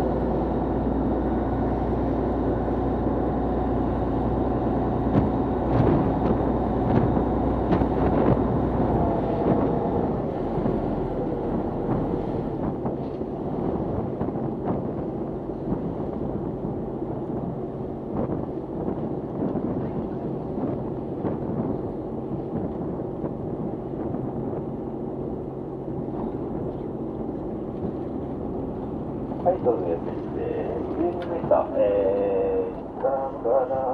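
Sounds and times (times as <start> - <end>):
wind buffeting microphone: 0.0 - 33.2
boat engine running: 0.0 - 33.9
water noise: 0.0 - 33.9.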